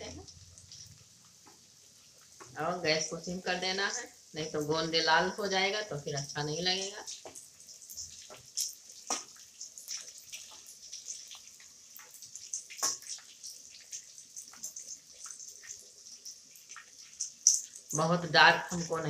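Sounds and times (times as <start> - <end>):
gum frying in hot oil: 0.0 - 19.0.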